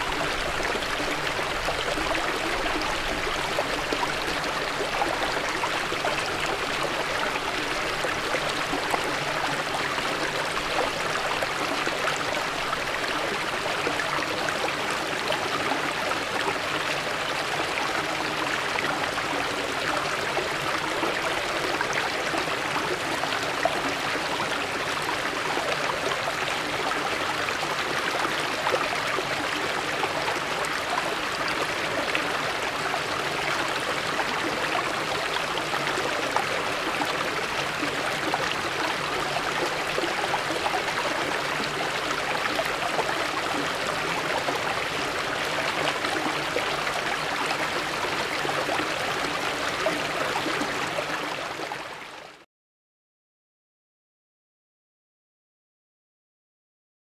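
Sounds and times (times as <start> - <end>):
stream splashing over rocks: 0.0 - 51.6.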